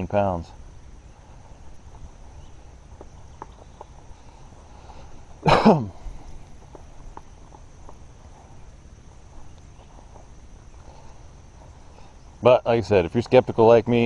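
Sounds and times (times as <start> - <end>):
faint scattered ticks: 0.0 - 14.0
high insect drone: 0.0 - 14.0.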